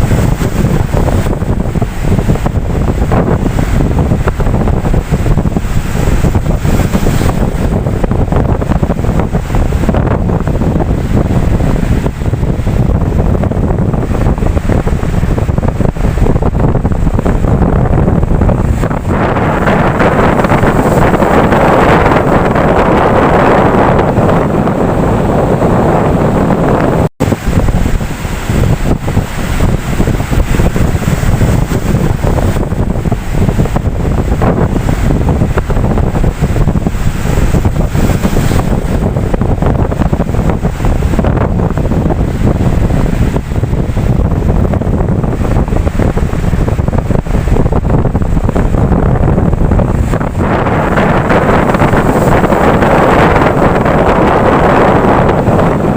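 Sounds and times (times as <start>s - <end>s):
ocean waves washing in: 0.0s - 55.9s
wind buffeting microphone: 0.0s - 55.9s.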